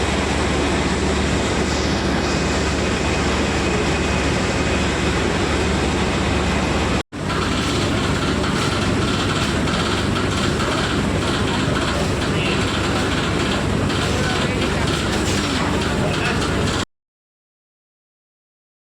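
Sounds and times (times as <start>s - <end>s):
machinery running: 0.0s - 16.8s.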